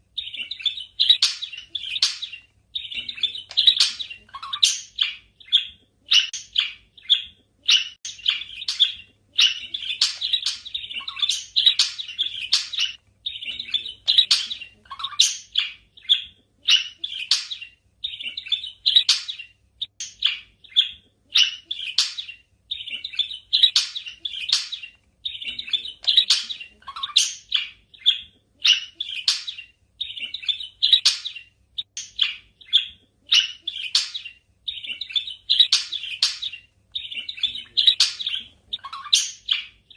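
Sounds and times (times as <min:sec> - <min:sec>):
budgerigars chirping: 0:00.2 - 0:39.9.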